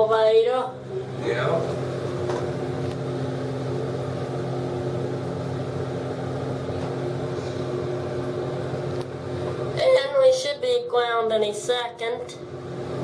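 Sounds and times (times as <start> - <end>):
elevator mechanical hum: 0.0 - 13.0.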